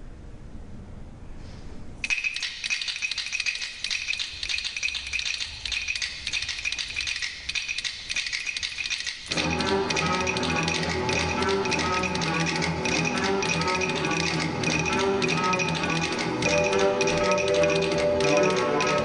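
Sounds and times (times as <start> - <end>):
fast dense percussion rattle: 2.0 - 19.0.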